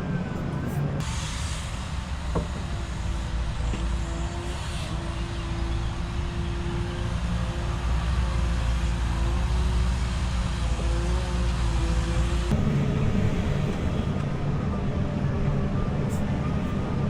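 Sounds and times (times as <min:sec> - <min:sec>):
diesel engine rumbling: 0:00.0 - 0:17.0
hydraulic whine: 0:00.0 - 0:17.0.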